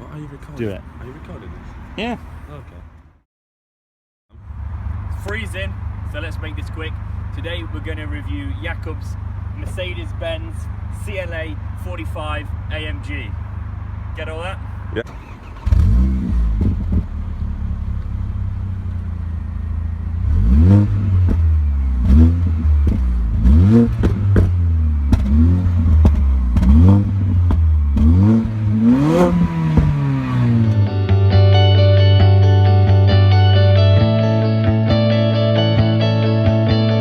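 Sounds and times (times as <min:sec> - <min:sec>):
car engine revving: 0:04.4 - 0:37.0.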